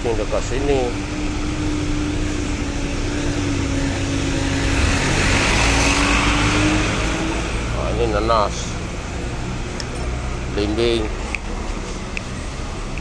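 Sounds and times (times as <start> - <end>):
low street noise: 0.0 - 13.0
vehicle engine humming: 0.0 - 13.0.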